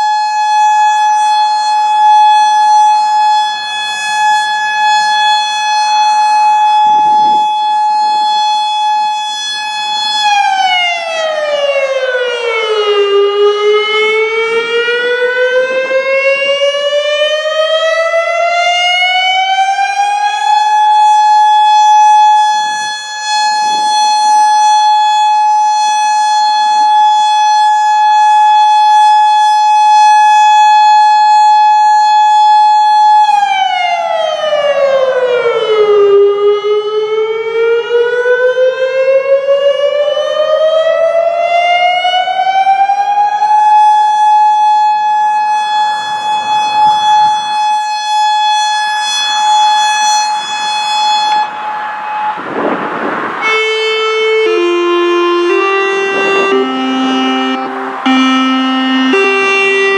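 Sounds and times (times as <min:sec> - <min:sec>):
distant lower siren: 0:00.0 - 0:59.9
loud electronic siren: 0:00.0 - 0:59.9.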